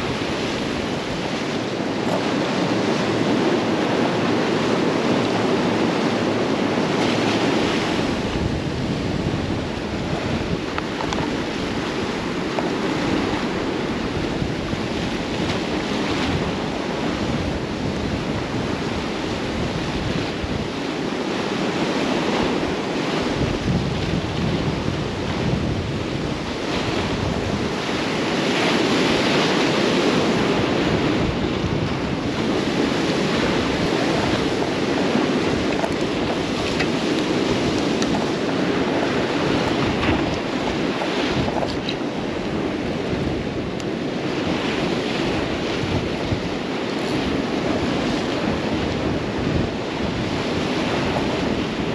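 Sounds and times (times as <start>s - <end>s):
surf breaking against rocks: 0.0s - 51.9s
wind buffeting microphone: 0.0s - 51.9s.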